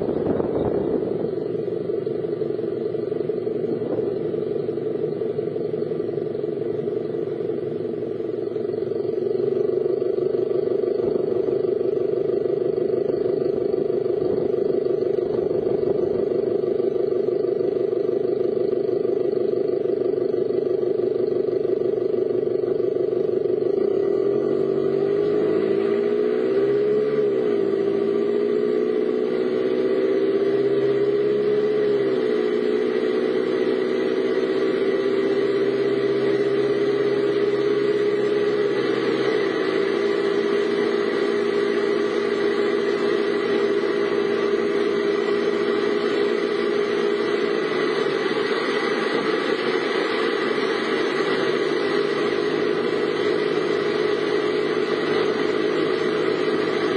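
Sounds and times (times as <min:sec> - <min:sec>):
car engine running while driving: 0:00.0 - 0:56.9.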